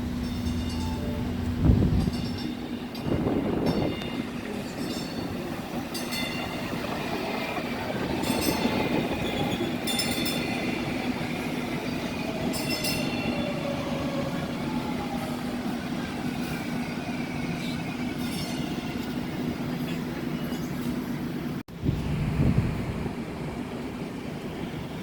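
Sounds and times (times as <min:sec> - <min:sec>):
light rail train humming: 0:00.0 - 0:25.0.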